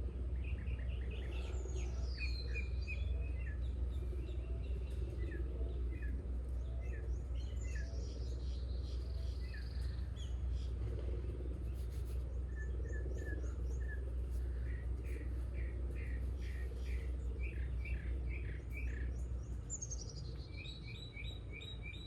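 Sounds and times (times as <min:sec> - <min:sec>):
steady low rumble: 0:00.0 - 0:22.0
wild birds singing: 0:00.0 - 0:22.0.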